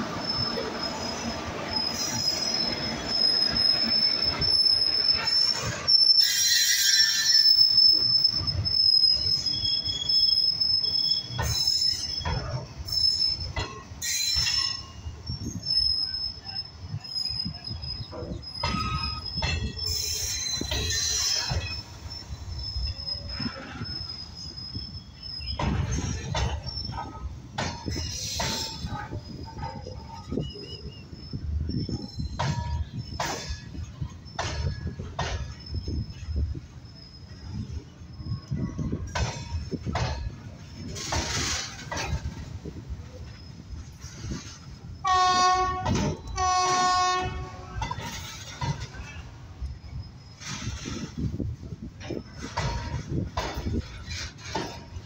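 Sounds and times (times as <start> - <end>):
train wheels squealing on rails: 0.0 - 55.0.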